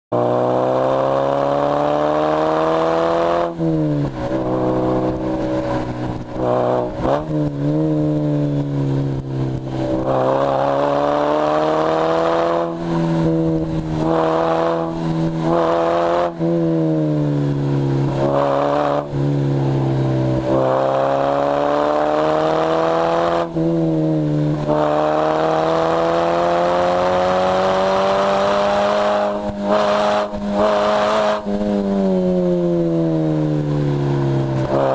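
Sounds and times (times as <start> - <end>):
car engine revving hard: 0.1 - 34.9.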